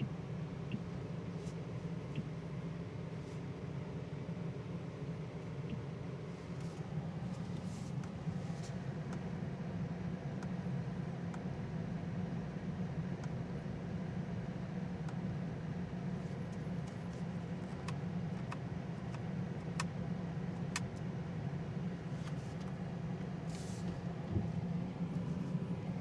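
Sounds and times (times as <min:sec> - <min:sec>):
car cabin hum: 0:00.0 - 0:26.0.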